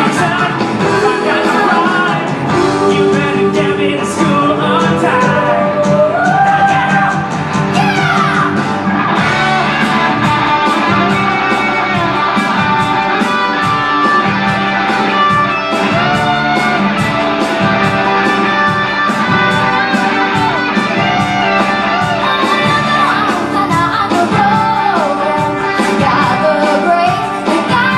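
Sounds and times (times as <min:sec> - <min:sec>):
bass guitar: 0:00.0 - 0:27.9
electric guitar lead: 0:00.0 - 0:27.9
steady drum beat: 0:00.0 - 0:27.9.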